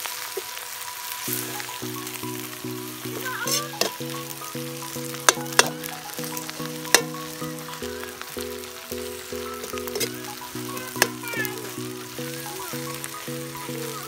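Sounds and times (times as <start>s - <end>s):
background music: 0.0s - 14.0s
vegetables sizzling in a wok: 0.0s - 14.0s.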